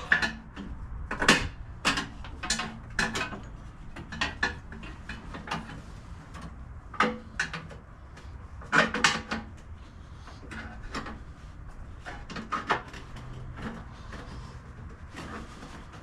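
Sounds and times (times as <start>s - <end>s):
hand tools knocking on metal parts: 0.0s - 16.0s.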